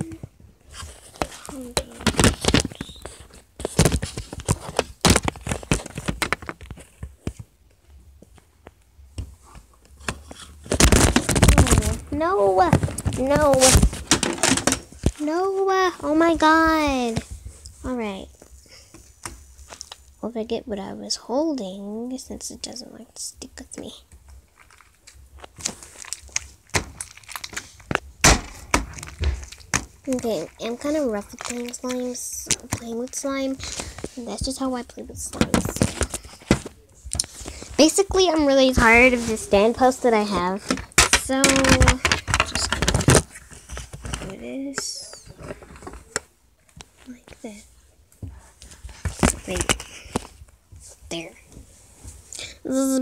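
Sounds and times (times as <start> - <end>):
rustling: 0.0 - 20.2, 23.7 - 53.0.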